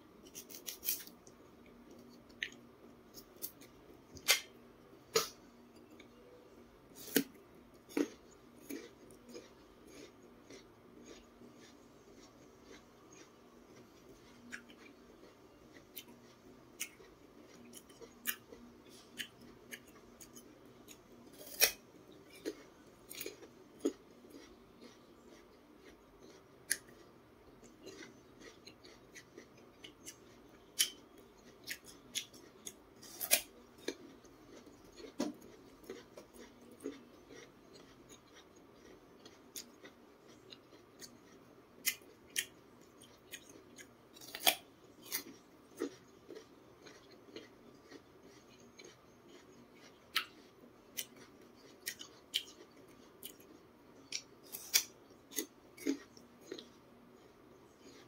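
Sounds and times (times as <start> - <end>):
crunching and chewing: 0.1 - 58.0.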